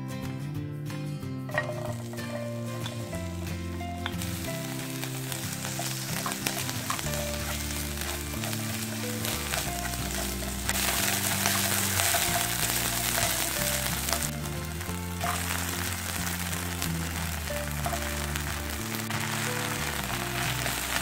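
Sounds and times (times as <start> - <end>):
light background music: 0.0 - 21.0
onion sizzling in oil: 1.5 - 21.0.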